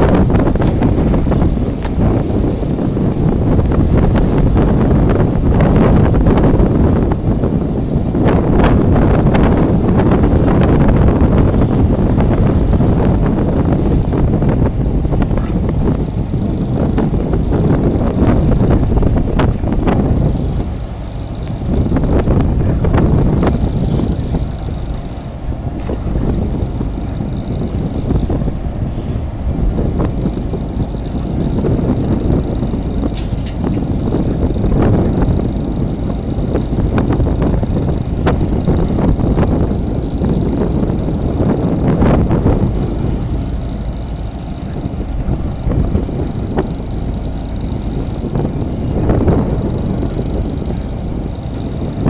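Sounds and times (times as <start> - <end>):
boat engine rumble: 0.0 - 52.0
wind buffeting microphone: 0.0 - 52.0.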